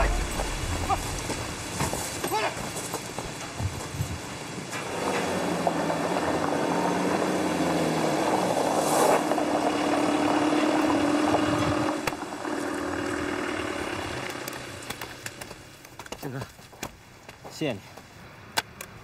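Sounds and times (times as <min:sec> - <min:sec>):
engine humming: 0:00.0 - 0:16.2.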